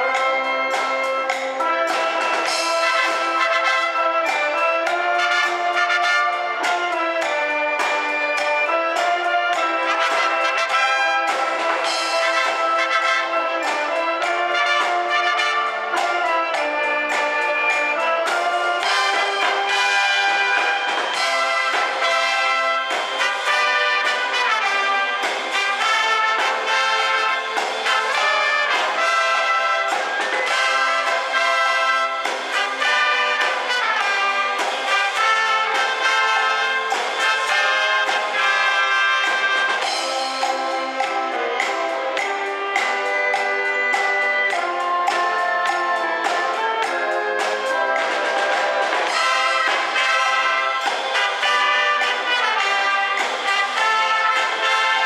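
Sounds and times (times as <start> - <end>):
concert wind band playing: 0.0 - 55.0.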